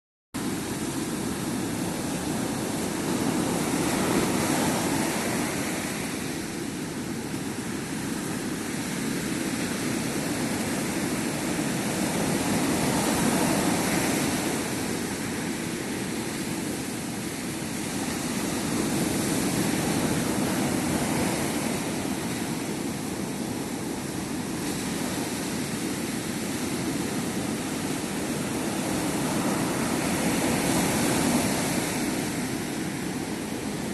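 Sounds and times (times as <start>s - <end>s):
sea surf washing onto beach: 0.4s - 33.9s.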